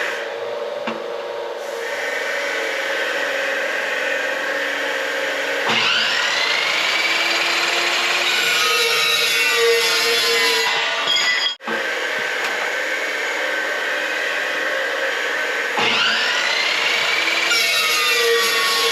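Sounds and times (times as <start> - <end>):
power tool grinding steel: 1.6 - 18.9.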